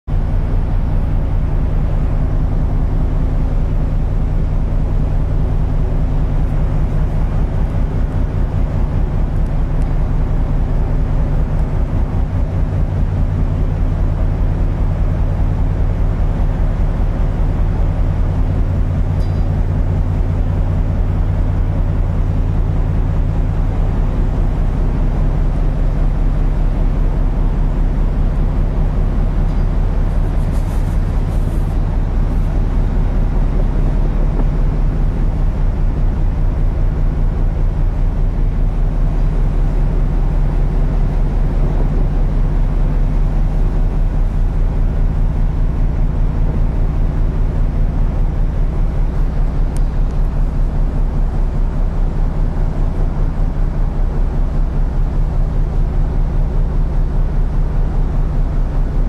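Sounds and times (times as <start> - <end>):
ship engines droning: 0.1 - 59.0.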